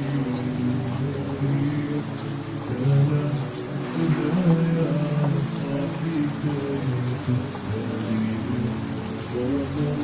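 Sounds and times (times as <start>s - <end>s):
slowed reverb-heavy vocal chant: 0.0s - 10.0s
steady rain: 0.0s - 10.0s.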